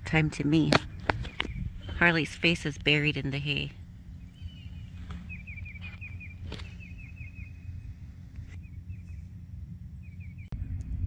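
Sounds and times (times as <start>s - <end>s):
steady low rumble: 0.0s - 11.0s
bird chirping: 0.8s - 10.5s.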